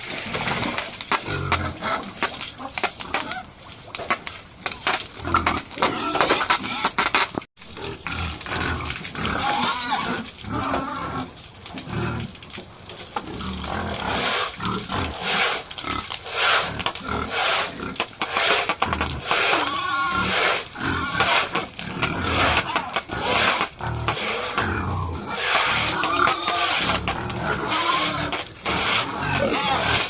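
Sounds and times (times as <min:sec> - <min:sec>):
pigs grunting and squealing: 0:00.3 - 0:03.6, 0:04.8 - 0:12.4, 0:13.2 - 0:30.0.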